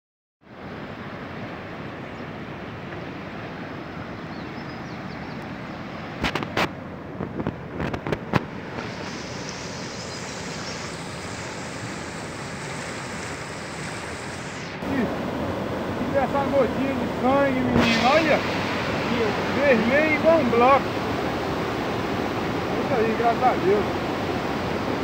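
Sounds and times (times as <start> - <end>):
river rushing over rocks: 0.5 - 25.0.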